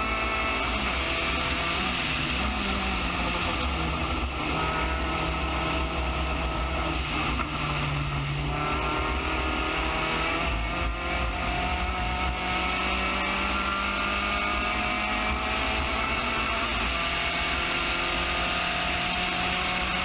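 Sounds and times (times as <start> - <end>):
race car engine under load: 0.0 - 20.0
wind and road noise: 0.0 - 20.0.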